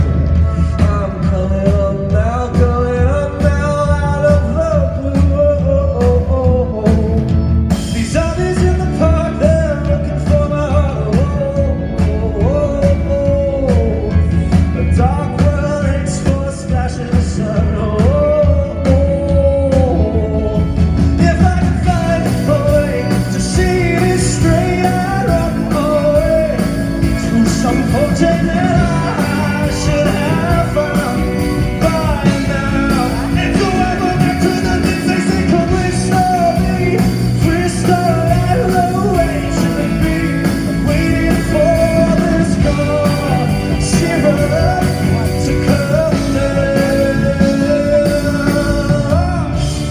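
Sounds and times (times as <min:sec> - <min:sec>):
man singing: 0:00.0 - 0:49.9
rock band playing: 0:00.0 - 0:49.9.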